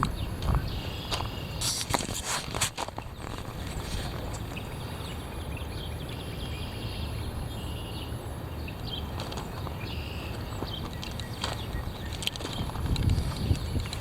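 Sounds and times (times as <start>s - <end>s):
wind buffeting microphone: 0.0s - 6.2s, 8.6s - 14.0s.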